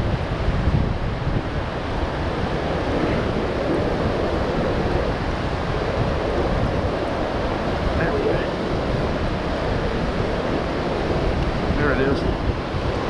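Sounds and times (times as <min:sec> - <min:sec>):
wind buffeting microphone: 0:00.0 - 0:13.0
whitewater rapid rushing: 0:01.5 - 0:13.0.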